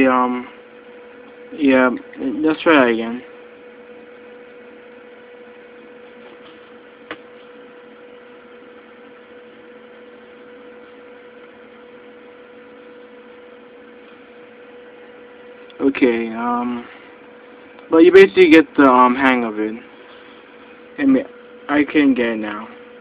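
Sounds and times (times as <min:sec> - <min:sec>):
electrical hum with hiss: 0:00.0 - 0:23.0.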